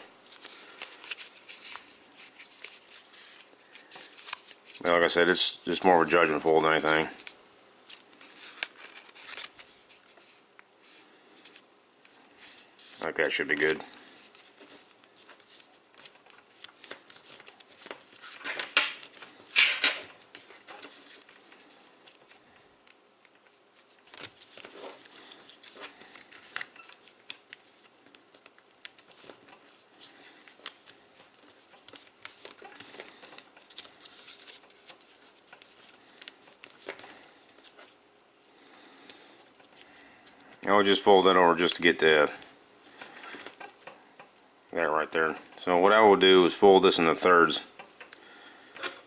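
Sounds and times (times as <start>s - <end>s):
paper rustling and crinkling: 0.2s - 5.2s, 6.3s - 22.7s, 23.3s - 42.3s.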